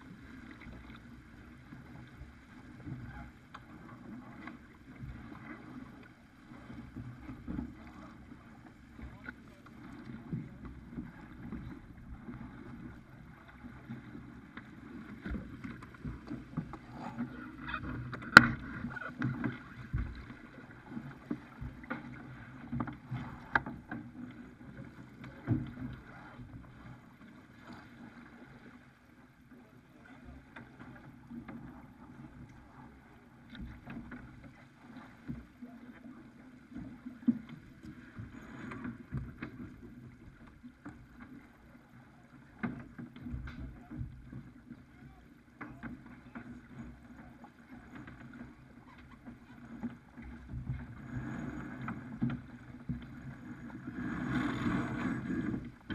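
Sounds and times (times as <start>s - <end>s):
water rushing along hull: 0.0s - 55.9s
wind: 0.0s - 55.9s.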